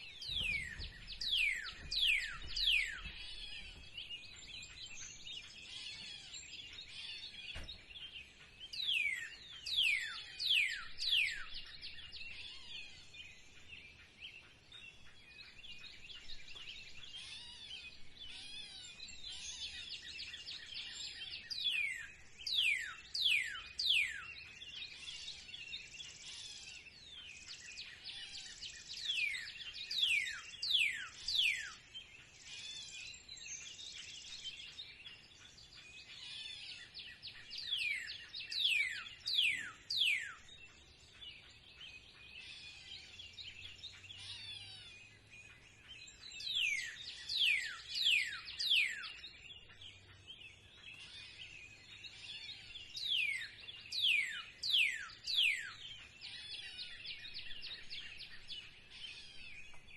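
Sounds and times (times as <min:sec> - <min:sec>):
many birds twittering: 0:00.0 - 0:59.9.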